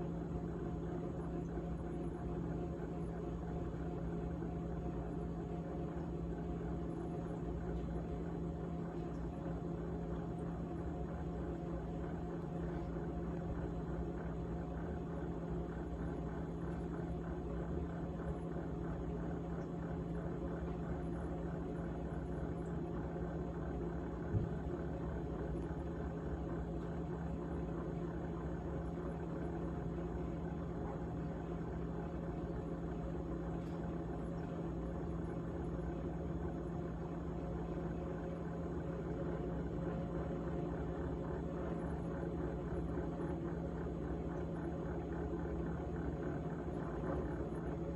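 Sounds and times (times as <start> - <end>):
refrigerator humming: 0.0 - 47.9.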